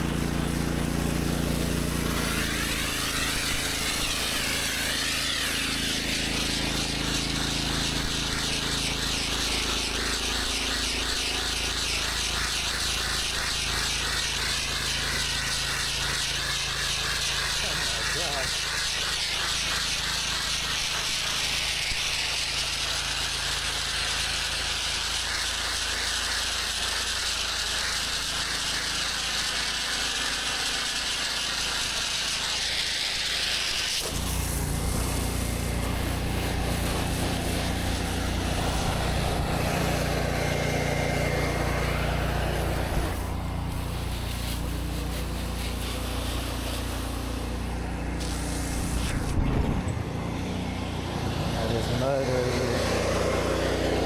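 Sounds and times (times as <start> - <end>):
pressure washer engine hum: 0.0 - 54.0
water spraying on concrete: 0.0 - 54.0.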